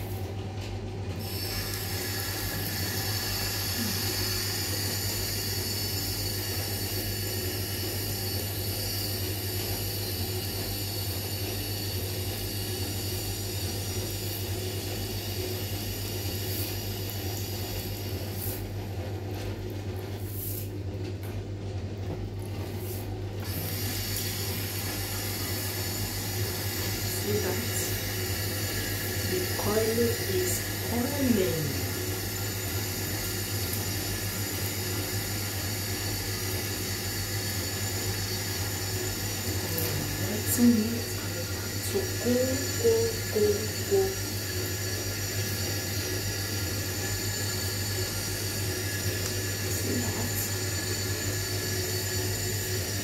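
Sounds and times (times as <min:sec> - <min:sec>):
machine hum with hiss: 0:00.0 - 0:53.0.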